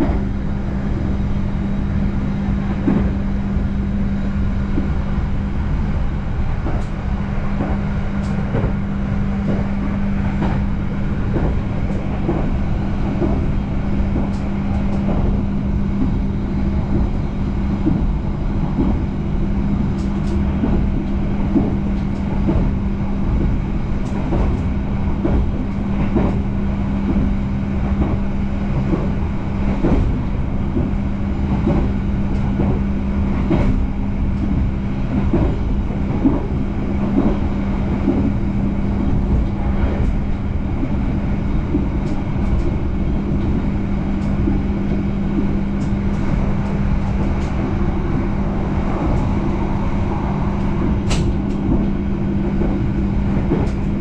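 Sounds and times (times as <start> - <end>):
constant hum: 0.0 - 54.0
train wheels rumbling on rails: 0.0 - 54.0.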